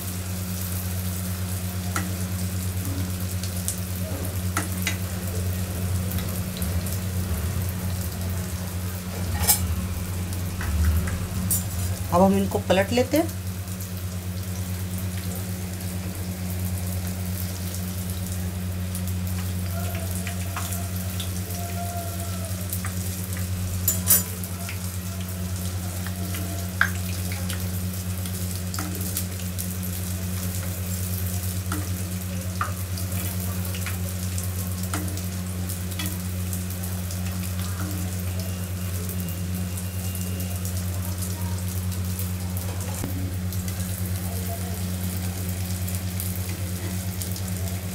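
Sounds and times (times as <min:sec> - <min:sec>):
food sizzling in hot oil: 0:00.0 - 0:47.9.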